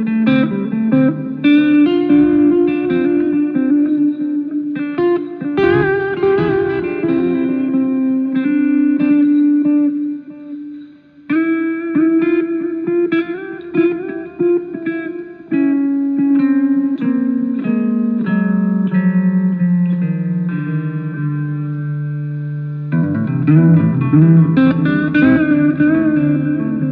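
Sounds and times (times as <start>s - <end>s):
solo guitar melody: 0.0s - 26.9s.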